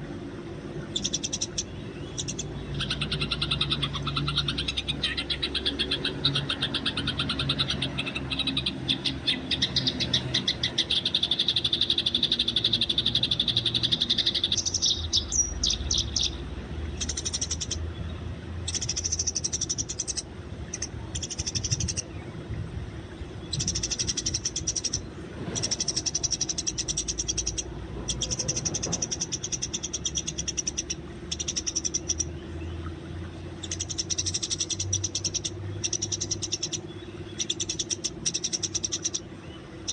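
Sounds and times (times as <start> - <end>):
sparrows chattering: 0.8 - 22.2, 23.3 - 32.8, 33.6 - 39.9.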